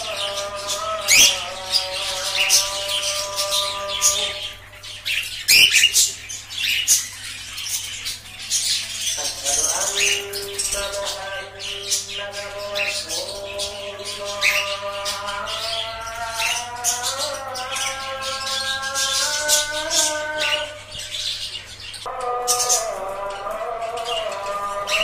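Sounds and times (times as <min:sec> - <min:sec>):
birds chirping and squawking: 0:00.0 - 0:25.0
slow music of held notes: 0:00.0 - 0:25.0.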